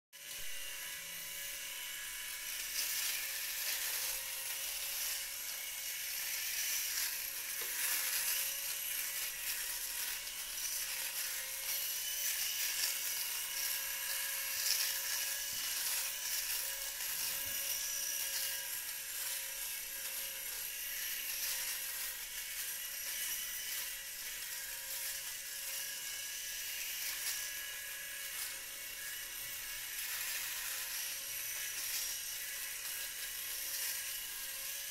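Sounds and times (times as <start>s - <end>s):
electric shaver running: 0.2s - 34.9s.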